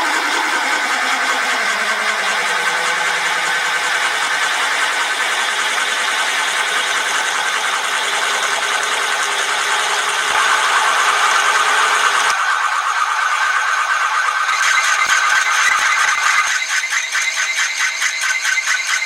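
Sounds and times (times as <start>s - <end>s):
metal lathe running: 0.0s - 19.0s
mid-pitched whine: 0.0s - 19.0s.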